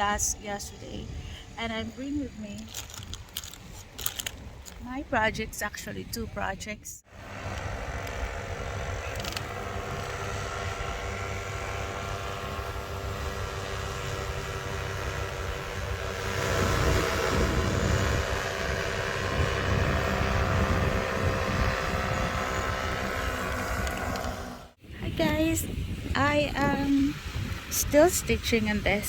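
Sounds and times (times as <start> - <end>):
motor drone with low rumble: 0.0 - 29.0.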